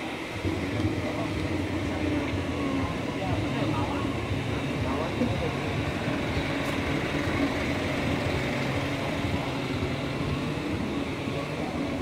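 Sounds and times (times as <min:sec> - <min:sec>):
electric scooter riding on pavement: 0:00.0 - 0:12.0.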